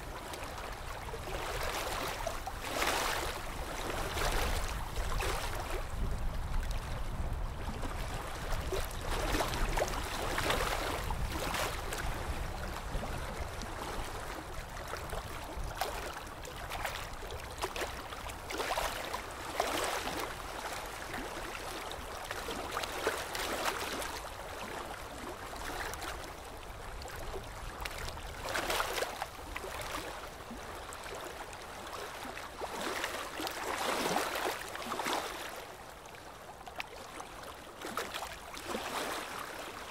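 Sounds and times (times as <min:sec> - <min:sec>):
water splashing beside a ship: 0:00.0 - 0:39.9.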